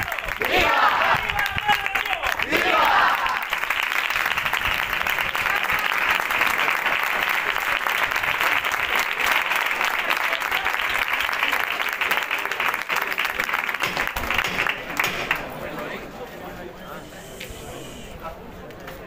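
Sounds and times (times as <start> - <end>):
large crowd applauding: 0.0 - 16.0.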